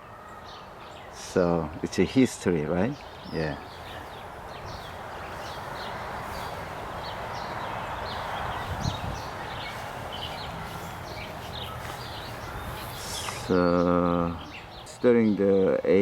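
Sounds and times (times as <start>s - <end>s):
small birds chirping: 0.0s - 16.0s
steady background hiss: 0.0s - 16.0s.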